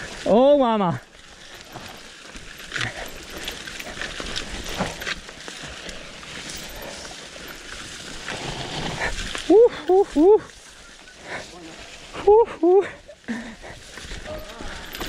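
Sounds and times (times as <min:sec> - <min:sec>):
bike tyres rolling over dirt: 0:00.0 - 0:15.0.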